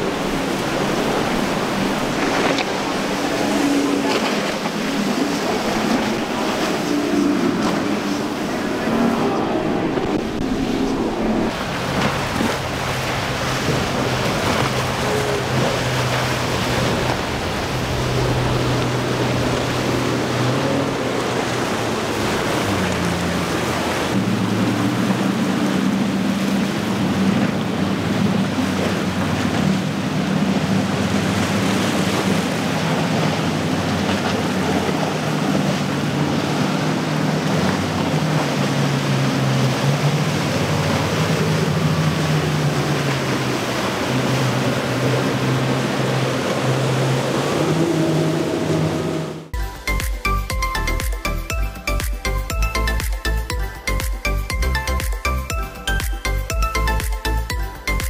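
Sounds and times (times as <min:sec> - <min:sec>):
outboard engine drone: 0:00.0 - 0:58.0
rushing water and spray: 0:00.0 - 0:58.0.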